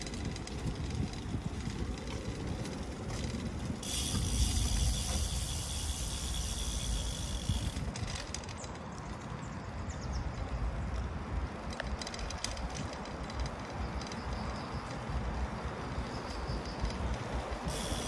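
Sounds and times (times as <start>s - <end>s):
tyres on paving stones: 0.0s - 18.0s
wind rumbling on microphone: 0.0s - 18.0s.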